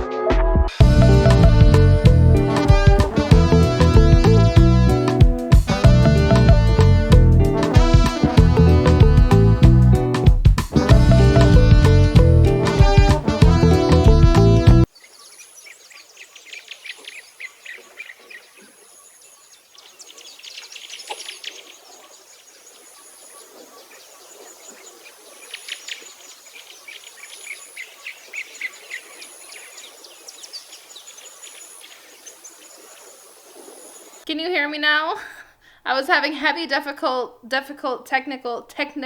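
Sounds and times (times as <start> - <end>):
birds chirping trills: 0.8 - 34.3.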